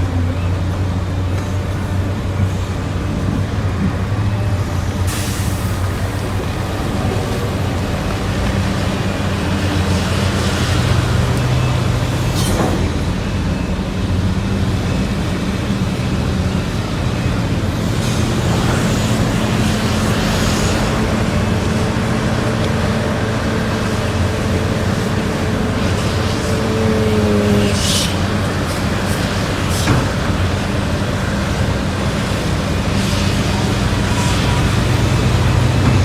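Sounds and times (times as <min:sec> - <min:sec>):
heavy diesel engines running: 0:00.0 - 0:36.0.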